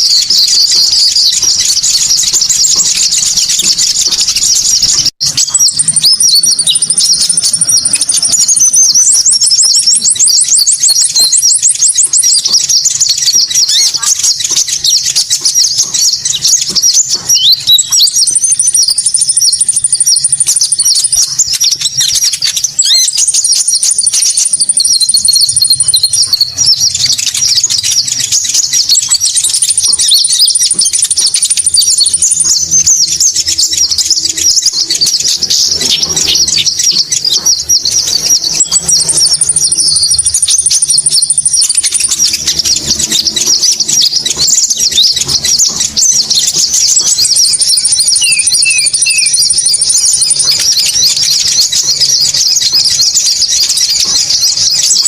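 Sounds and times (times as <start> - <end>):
bird chattering chirps: 0.0 - 55.0
thin high bird trill: 0.0 - 55.0.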